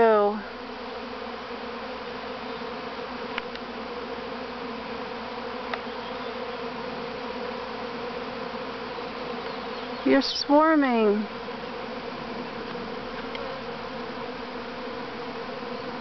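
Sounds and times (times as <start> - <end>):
bee swarm humming: 0.0 - 16.0.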